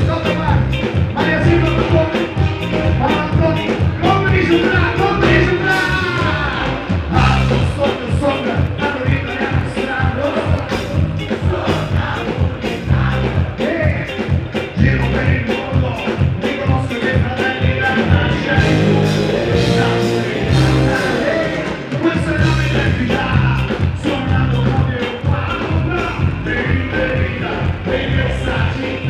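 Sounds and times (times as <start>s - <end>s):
electric guitar: 0.0s - 29.0s
live band playing upbeat song: 0.0s - 29.0s
person singing: 0.0s - 29.0s.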